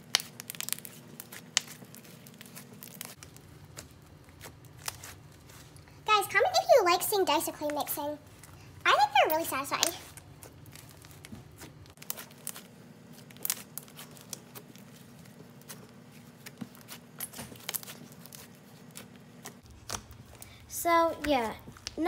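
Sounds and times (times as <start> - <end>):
slime kneaded with soft pops: 0.0 - 22.0.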